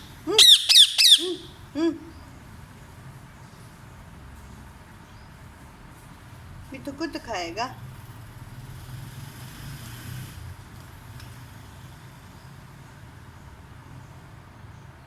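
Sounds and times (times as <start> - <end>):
low steady engine hum: 0.0 - 15.0.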